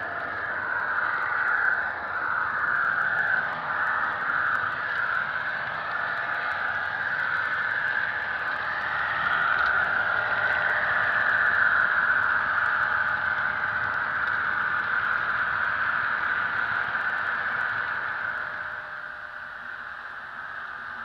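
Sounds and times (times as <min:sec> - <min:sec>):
model train diesel sound drone: 0:00.0 - 0:21.0.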